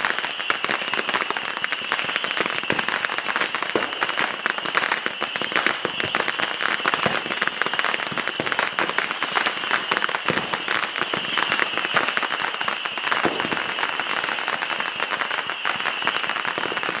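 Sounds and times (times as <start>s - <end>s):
fireworks cracking: 0.0s - 17.0s.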